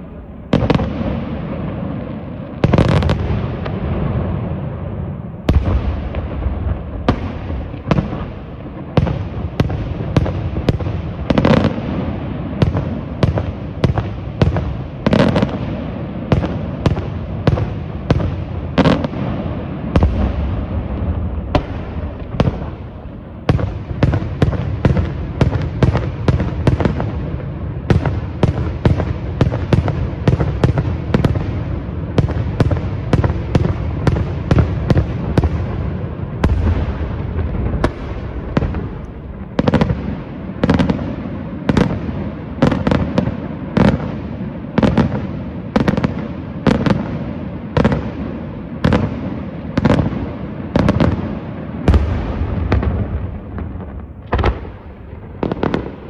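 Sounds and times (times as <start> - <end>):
firework booms with rumble: 0.0 - 56.0
fireworks bangs: 0.0 - 56.0.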